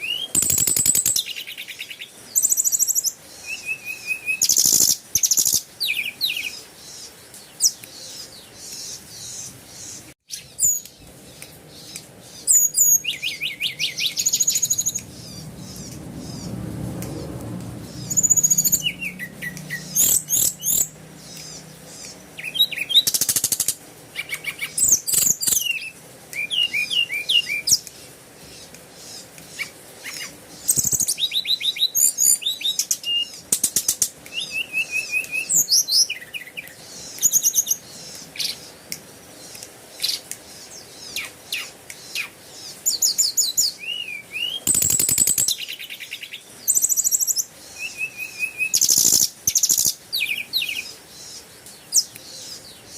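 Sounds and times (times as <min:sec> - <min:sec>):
birds chirping and trilling: 0:00.0 - 0:52.9.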